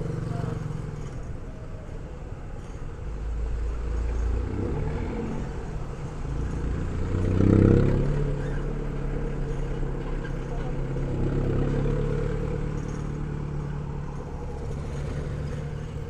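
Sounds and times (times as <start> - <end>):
van engine and road noise: 0.0 - 16.0.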